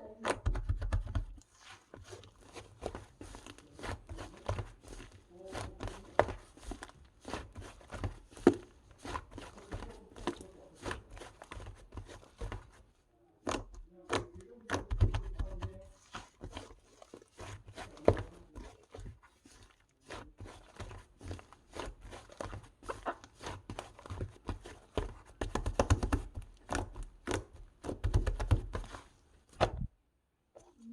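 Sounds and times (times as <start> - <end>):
slime squelching: 0.0 - 30.9.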